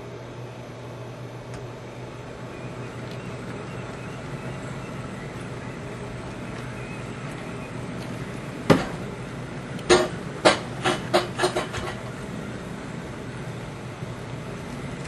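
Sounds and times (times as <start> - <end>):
model train cars rolling: 2.3 - 15.0.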